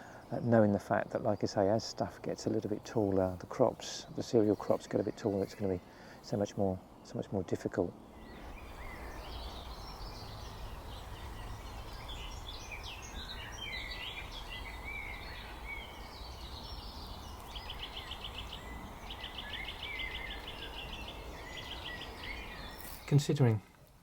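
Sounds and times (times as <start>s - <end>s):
small birds singing: 0.0s - 24.0s
low wind rumble: 0.9s - 23.1s.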